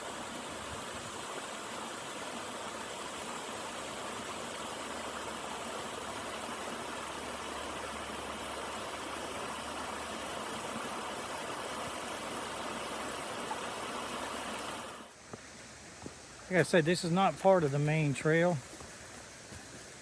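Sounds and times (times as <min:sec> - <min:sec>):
creek water over small waterfall: 0:00.0 - 0:20.0.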